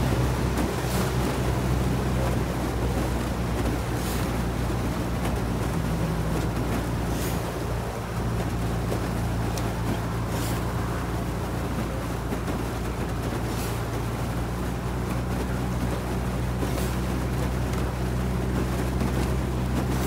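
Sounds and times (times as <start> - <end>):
outboard motor droning: 0.0 - 20.0
water noise: 0.0 - 20.0.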